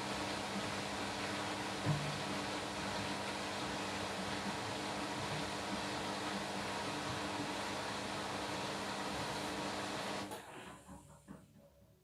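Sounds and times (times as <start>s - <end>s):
washing machine spinning: 0.0s - 11.8s.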